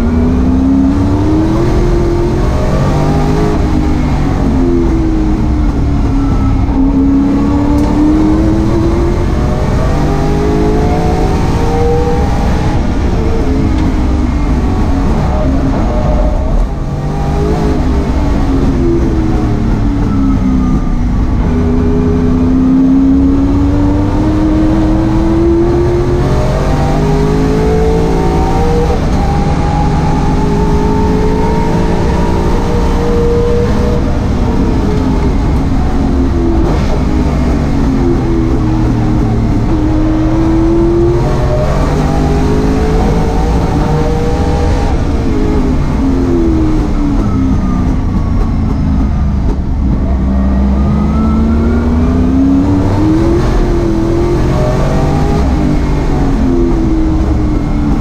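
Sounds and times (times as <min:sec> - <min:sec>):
race car engine from inside cabin: 0:00.0 - 0:58.0.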